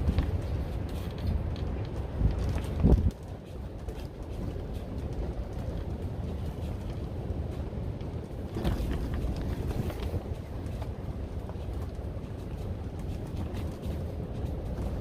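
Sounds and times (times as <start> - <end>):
high wind buffeting greenhouse plastic: 0.0 - 15.0.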